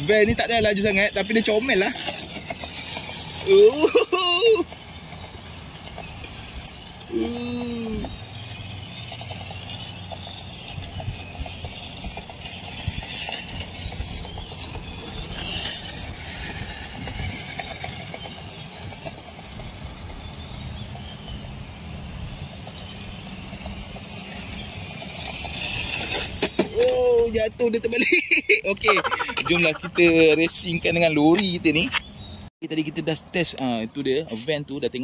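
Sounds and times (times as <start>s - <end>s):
toy car motor whining: 0.0s - 28.1s, 28.7s - 31.9s.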